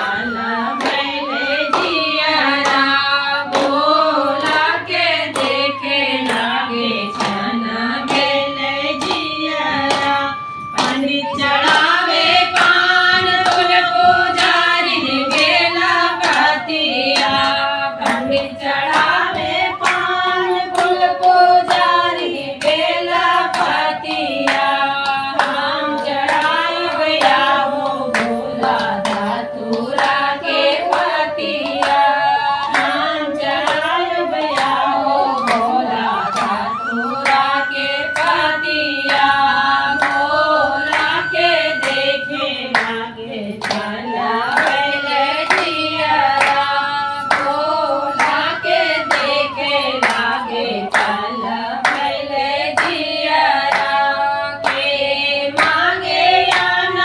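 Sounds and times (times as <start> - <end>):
hand-clapping: 0.0 - 57.0
women singing together: 0.0 - 57.0.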